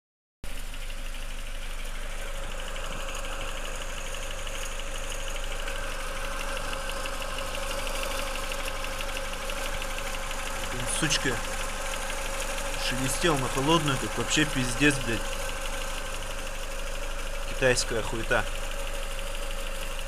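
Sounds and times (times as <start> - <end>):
car engine idling: 0.4 - 20.0
tensioner pulley hum: 0.5 - 20.0.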